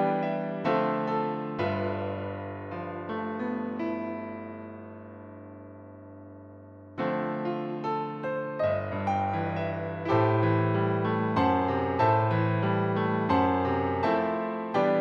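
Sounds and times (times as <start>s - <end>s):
solo piano ballad: 0.0s - 15.0s.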